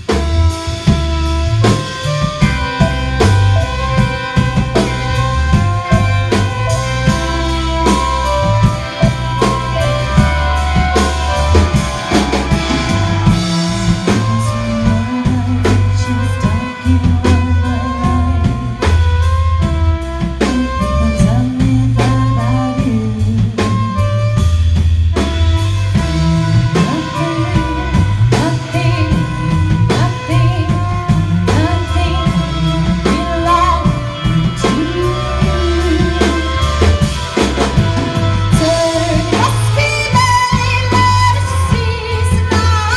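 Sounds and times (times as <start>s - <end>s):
drum kit beat: 0.0s - 42.9s
live band playing: 0.0s - 42.9s
person singing: 0.1s - 24.3s, 25.9s - 42.9s.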